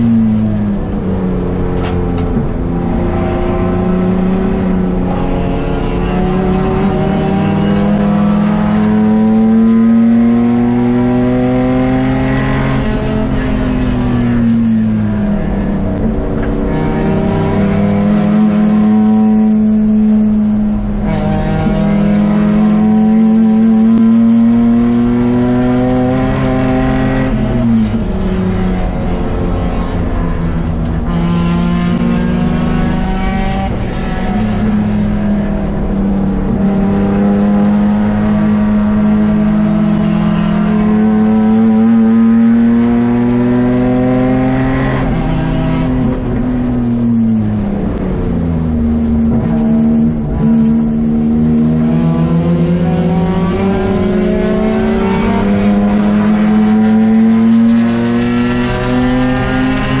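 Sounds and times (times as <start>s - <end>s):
car engine revving hard: 0.0s - 60.0s.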